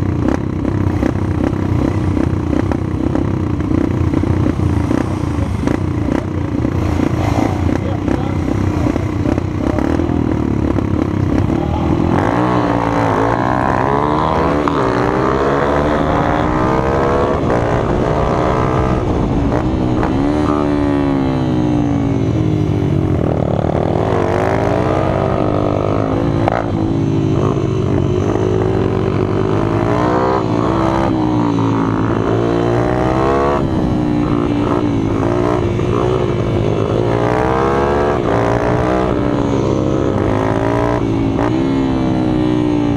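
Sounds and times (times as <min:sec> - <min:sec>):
minibike engines revving: 0:00.0 - 0:42.9.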